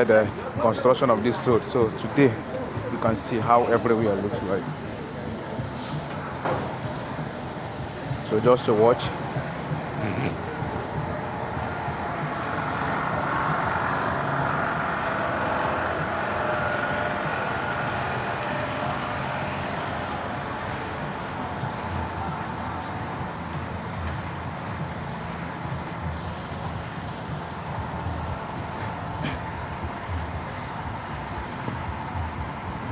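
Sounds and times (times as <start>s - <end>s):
road traffic noise: 0.0s - 32.9s
vehicle engine: 0.0s - 32.9s.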